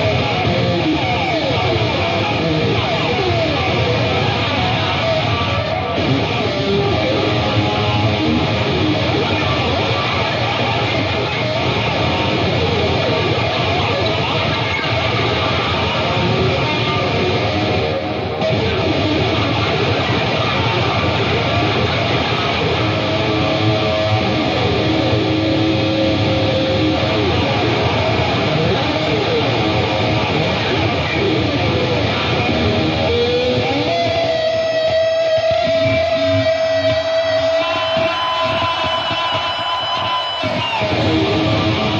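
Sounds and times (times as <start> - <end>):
electric guitar solo: 0.0 - 41.9.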